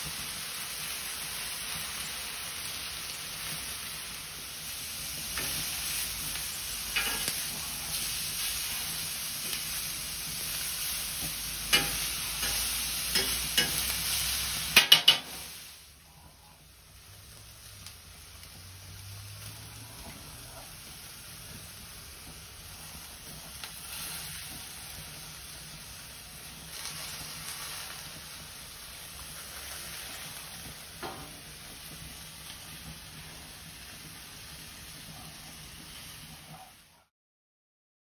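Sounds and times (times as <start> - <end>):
patties sizzling on a griddle: 0.0 - 37.1.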